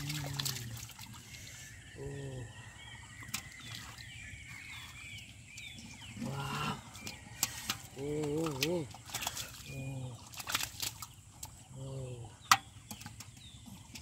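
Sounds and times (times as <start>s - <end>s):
muddy water splashing: 0.0s - 14.0s
small birds chirping: 0.0s - 14.0s.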